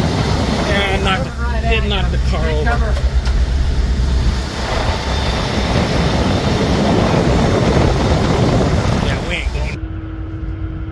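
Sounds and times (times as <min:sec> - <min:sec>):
strong wind rushing: 0:00.0 - 0:10.9
wind rumble on microphone: 0:00.0 - 0:10.9.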